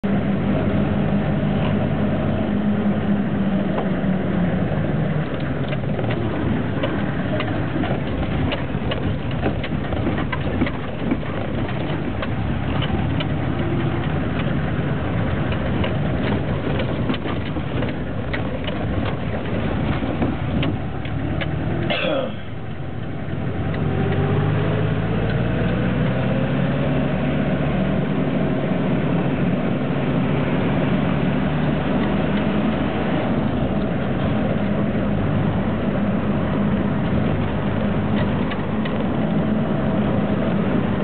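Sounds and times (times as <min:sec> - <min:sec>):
rattles from rough road: 0:00.0 - 0:41.0
vehicle engine running: 0:00.0 - 0:41.0.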